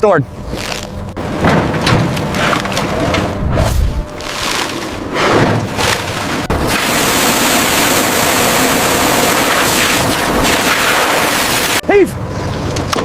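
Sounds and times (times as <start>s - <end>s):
wind and sea rushing: 1.2s - 12.9s.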